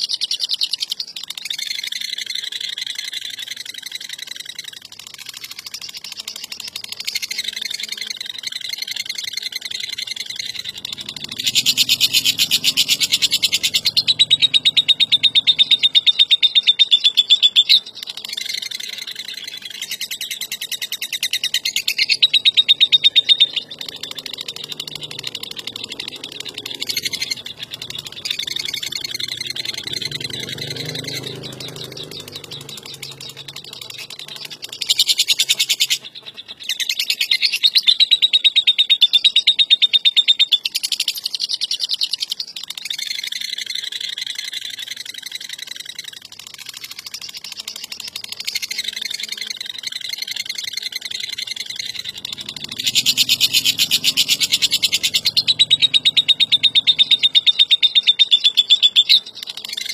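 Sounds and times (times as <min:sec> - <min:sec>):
lovebird chattering trill: 0:00.0 - 0:59.9.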